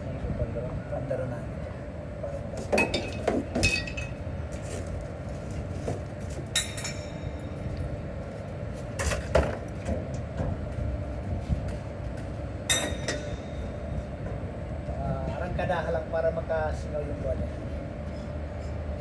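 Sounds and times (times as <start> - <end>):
low rumble of running machinery: 0.0 - 19.0.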